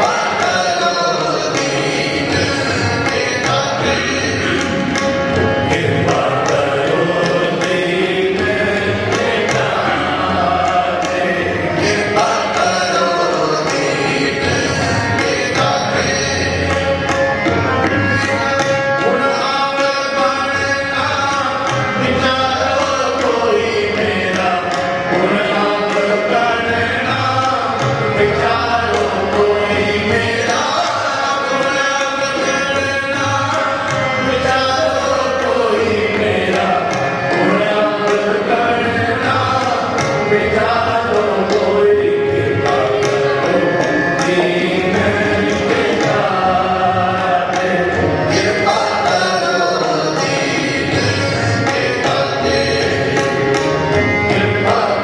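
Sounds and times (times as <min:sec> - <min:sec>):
men singing a hymn: 0:00.0 - 0:04.7, 0:05.6 - 0:16.8, 0:18.5 - 0:55.0
harmonium: 0:00.0 - 0:55.0
tabla beat: 0:00.0 - 0:55.0.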